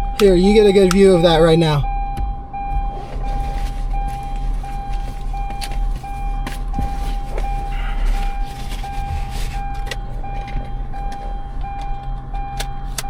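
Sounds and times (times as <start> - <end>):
low vehicle hum: 0.0 - 13.0
vehicle warning chime beeping: 0.0 - 13.0.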